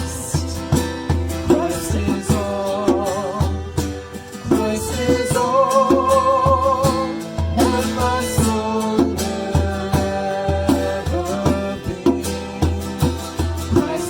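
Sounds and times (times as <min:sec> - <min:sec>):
band playing worship song: 0:00.0 - 0:14.0.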